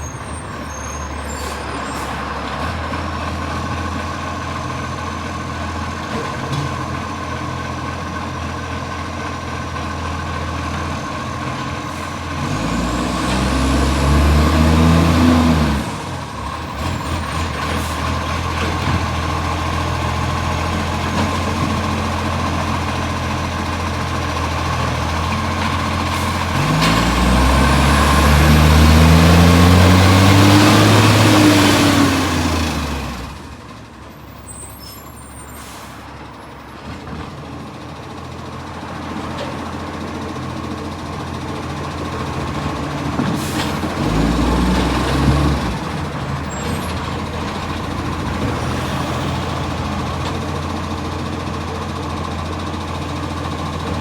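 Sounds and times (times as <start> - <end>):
diesel truck engine idling and revving: 0.0 - 54.0.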